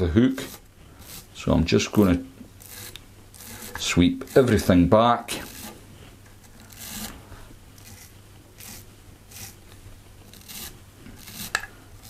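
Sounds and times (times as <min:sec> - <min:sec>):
wire brush rasping strokes: 0:00.0 - 0:07.2, 0:07.8 - 0:09.7, 0:10.3 - 0:12.0.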